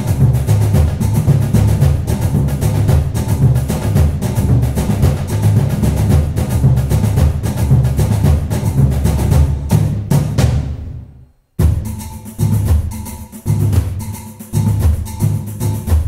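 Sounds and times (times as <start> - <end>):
background music with drums: 0.0 - 16.0.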